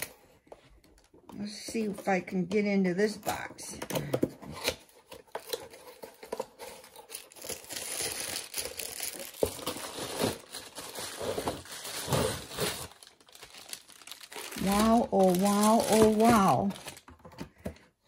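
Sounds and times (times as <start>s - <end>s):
packaging rustling and crinkling: 3.2s - 17.7s.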